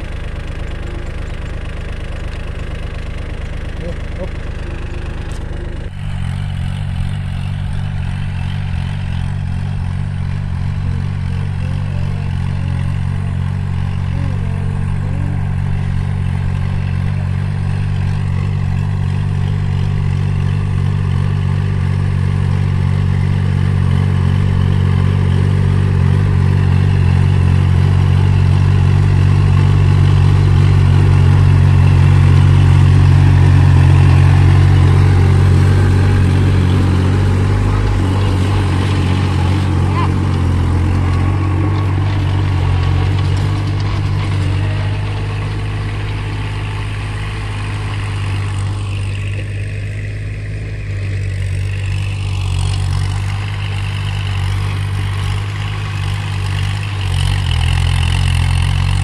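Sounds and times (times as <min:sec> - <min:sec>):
rotary tiller in soil: 0:00.0 - 0:59.0
tractor diesel engine running: 0:00.0 - 0:59.0.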